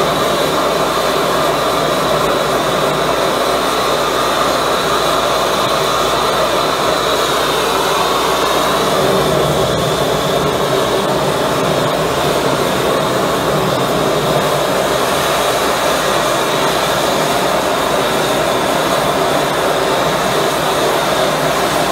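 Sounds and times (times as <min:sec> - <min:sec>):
gas burner roaring: 0:00.0 - 0:21.9.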